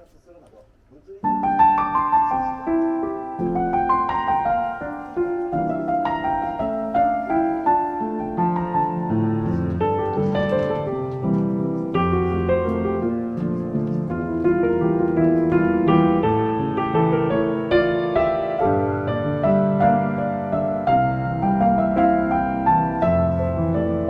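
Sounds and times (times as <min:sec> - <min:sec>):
gentle piano music: 0:01.1 - 0:24.0.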